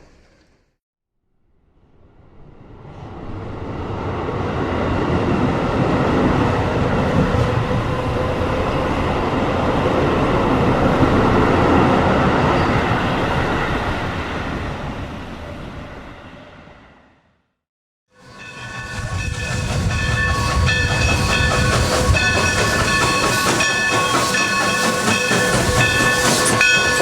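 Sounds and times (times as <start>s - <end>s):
train rumbling along rails: 2.1s - 17.2s, 18.2s - 27.0s.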